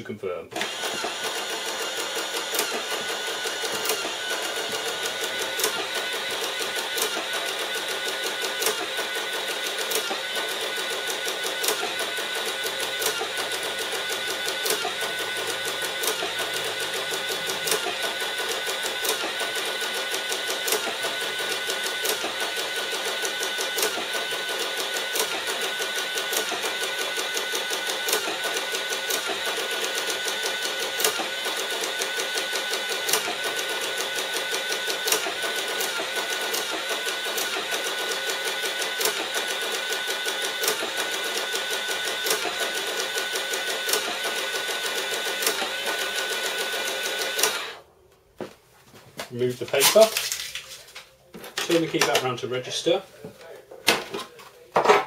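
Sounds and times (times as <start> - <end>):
receipt printer whirring and ticking: 0.5 - 47.8.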